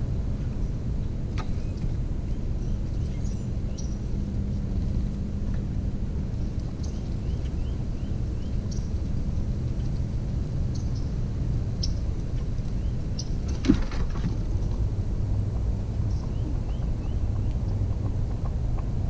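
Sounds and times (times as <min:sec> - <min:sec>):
faint constant hum: 0:00.0 - 0:19.0
low outdoor rumble: 0:00.0 - 0:19.0
small birds chirping: 0:00.5 - 0:19.0.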